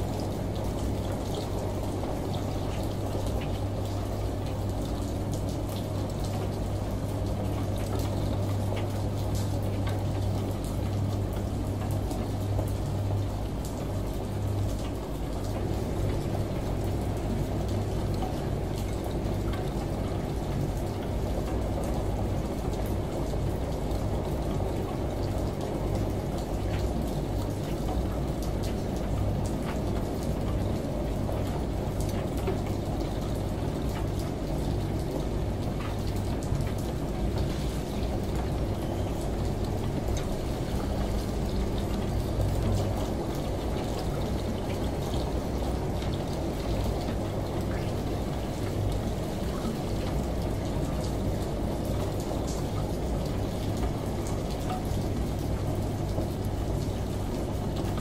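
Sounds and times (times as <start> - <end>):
water sloshing in washing machine: 0.2 - 58.0.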